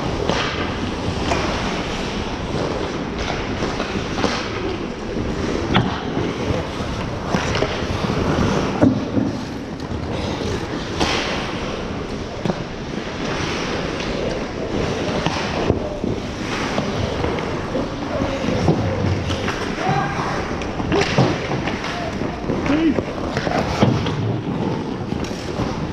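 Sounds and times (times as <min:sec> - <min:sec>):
hockey sticks and puck clacking: 0:00.0 - 0:25.9
skates scraping on ice: 0:00.0 - 0:25.9.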